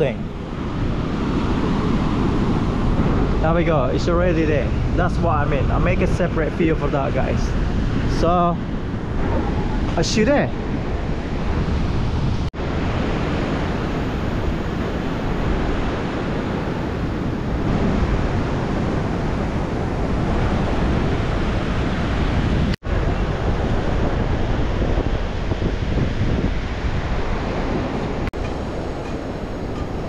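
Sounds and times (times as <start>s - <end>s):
wind on microphone: 0.0s - 30.0s.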